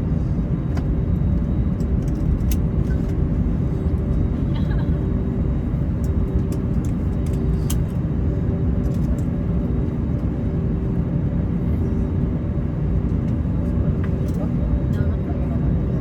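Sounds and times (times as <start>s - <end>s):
airplane cabin engine rumble: 0.0s - 16.0s
constant hum: 0.0s - 16.0s.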